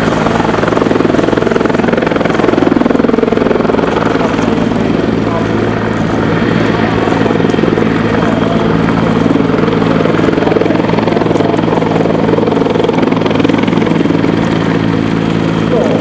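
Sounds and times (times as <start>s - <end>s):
helicopter hovering: 0.0s - 16.0s.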